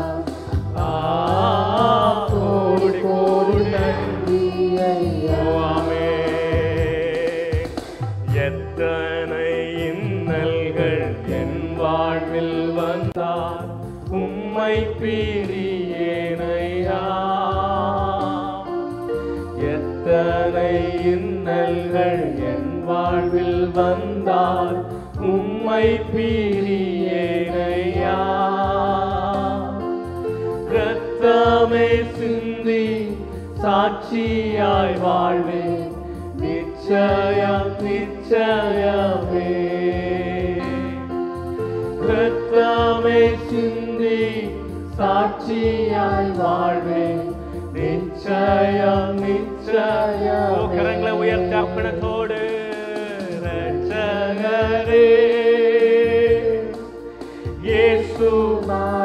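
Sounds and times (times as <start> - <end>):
instrumental accompaniment: 0.0 - 59.0
worship song singing: 0.0 - 59.0.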